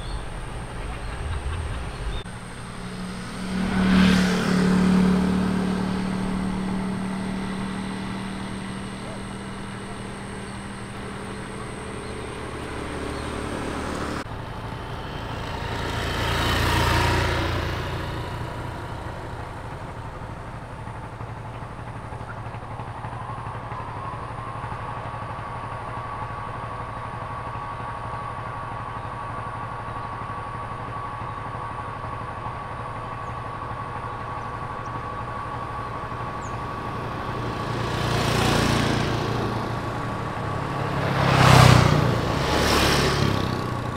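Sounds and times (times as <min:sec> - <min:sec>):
low engine hum: 0:00.0 - 0:43.9
vehicles passing: 0:00.0 - 0:43.9.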